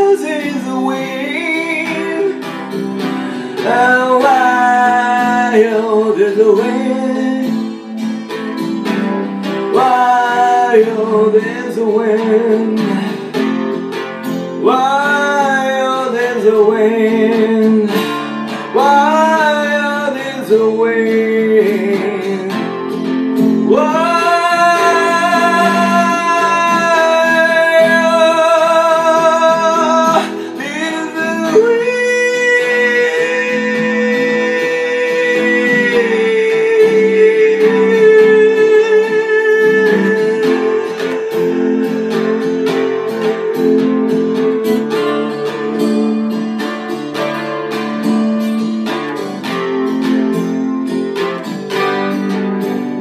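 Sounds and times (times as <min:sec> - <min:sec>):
acoustic guitar: 0:00.0 - 0:53.0.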